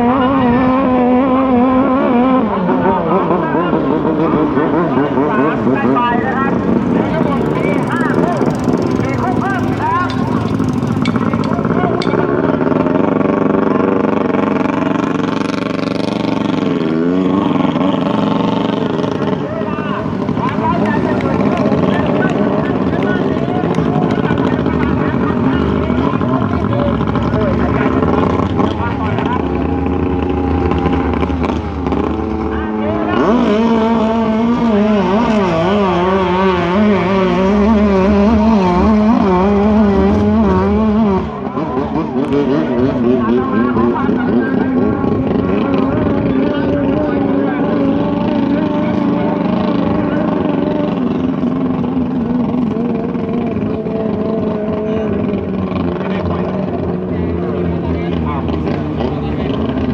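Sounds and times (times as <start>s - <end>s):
boat engine at high revs: 0.0s - 59.9s.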